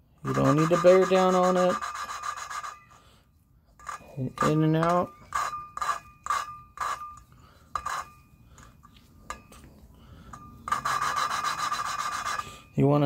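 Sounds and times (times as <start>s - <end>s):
gritty rubbing of valve: 0.2s - 9.7s, 10.3s - 12.7s.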